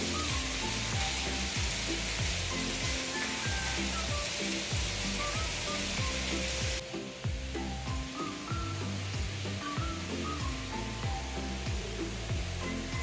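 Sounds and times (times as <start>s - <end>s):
music with steady beat: 0.0s - 13.0s
water jets spraying: 0.0s - 13.0s.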